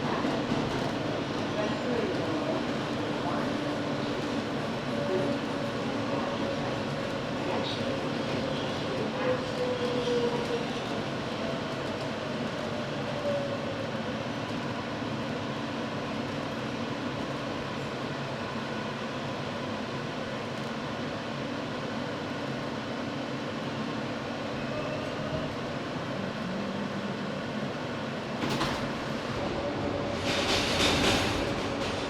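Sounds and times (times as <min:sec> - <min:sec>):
subway train rumble and rattle: 0:00.0 - 0:32.0.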